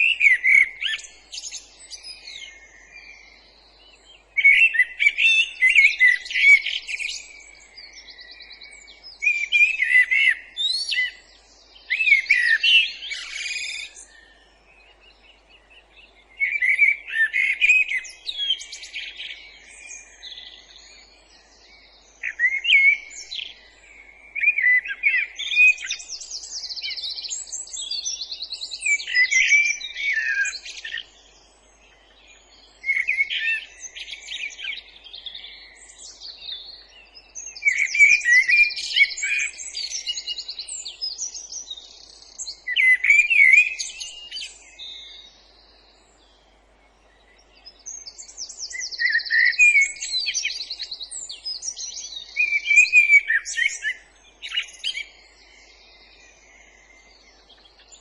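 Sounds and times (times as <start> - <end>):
faint background hiss: 0.0 - 58.0
songbird singing: 0.0 - 58.0.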